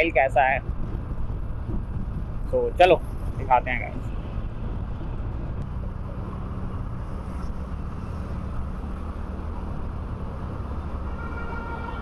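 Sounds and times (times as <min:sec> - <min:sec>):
road noise: 0:00.0 - 0:12.0
wind noise: 0:00.0 - 0:12.0.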